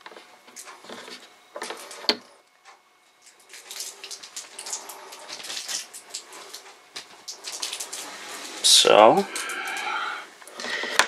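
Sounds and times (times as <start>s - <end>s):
crackling rustling handling noise: 0.0s - 11.0s.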